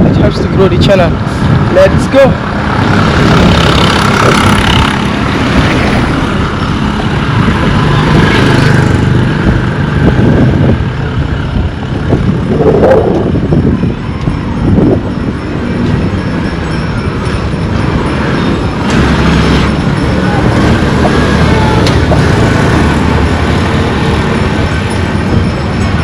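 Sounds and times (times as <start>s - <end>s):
vehicles passing: 0.0s - 26.0s
wind buffeting microphone: 0.0s - 26.0s.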